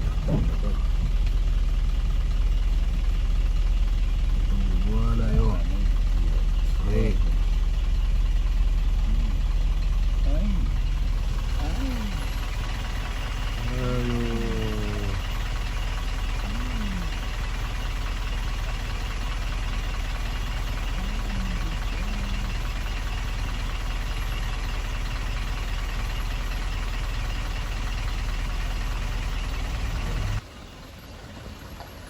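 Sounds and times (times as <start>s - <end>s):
truck diesel engine droning: 0.0s - 32.0s.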